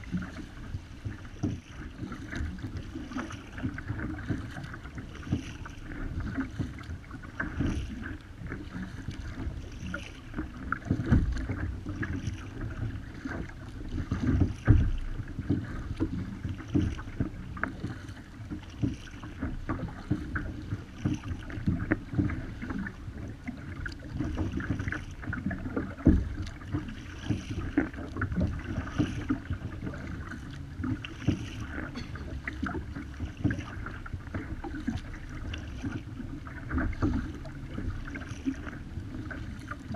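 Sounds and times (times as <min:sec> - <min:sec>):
paddle strokes splashing: 0:00.0 - 0:39.9
water slapping against kayak hull: 0:00.0 - 0:39.9
wind rumble on microphone: 0:00.0 - 0:39.9.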